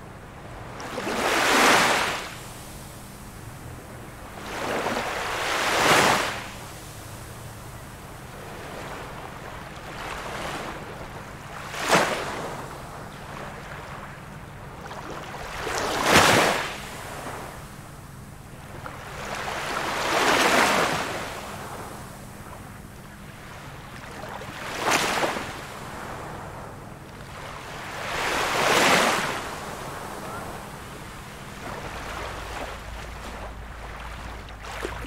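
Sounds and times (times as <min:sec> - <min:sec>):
ocean waves breaking: 0:00.4 - 0:17.7, 0:18.6 - 0:35.0.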